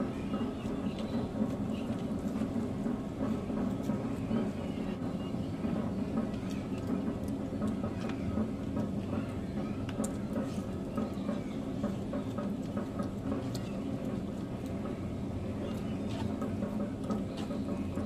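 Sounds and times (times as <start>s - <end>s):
fan motor hum: 0.0s - 18.0s.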